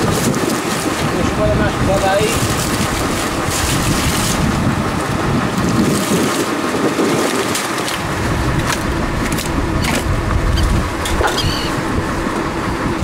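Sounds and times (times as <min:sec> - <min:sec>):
sea and boat noise: 0:00.0 - 0:13.0
wind buffeting microphone: 0:00.0 - 0:13.0.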